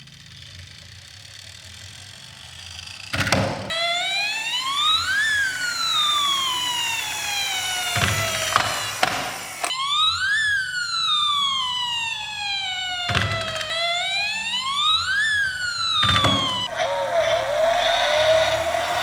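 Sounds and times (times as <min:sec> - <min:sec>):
emergency siren wailing: 0:01.3 - 0:19.0.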